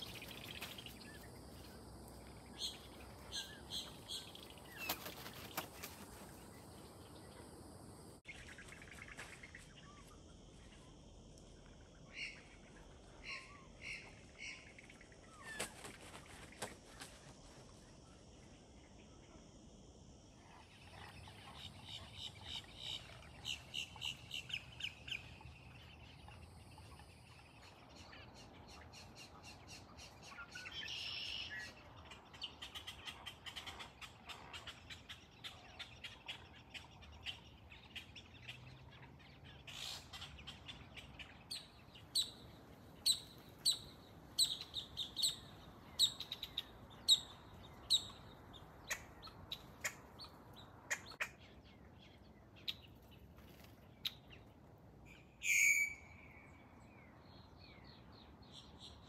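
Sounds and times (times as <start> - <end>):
birds chirping: 0.0 - 17.1, 20.4 - 59.0.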